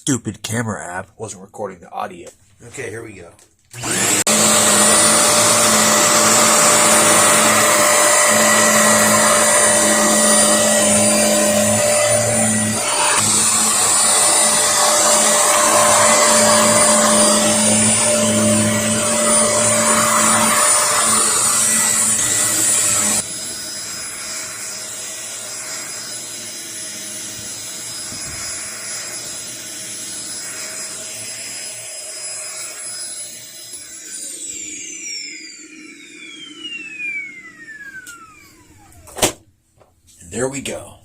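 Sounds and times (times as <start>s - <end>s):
upright vacuum cleaner running: 3.7s - 39.3s.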